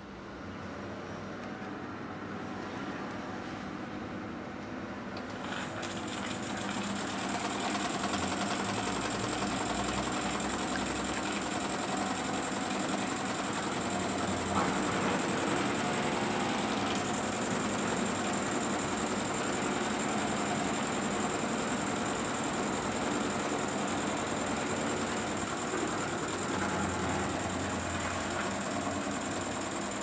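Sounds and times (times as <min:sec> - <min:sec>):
toy steam engine chattering: 0:05.6 - 0:30.0.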